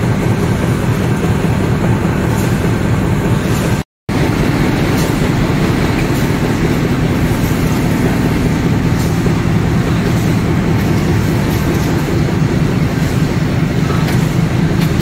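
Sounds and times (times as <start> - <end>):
machine rumble: 0.0 - 15.0.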